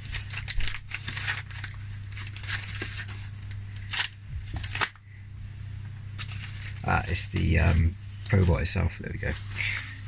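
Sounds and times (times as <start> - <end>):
packaging rustling and crinkling: 0.0 - 5.0, 6.2 - 10.0
low steady hum: 0.0 - 10.0.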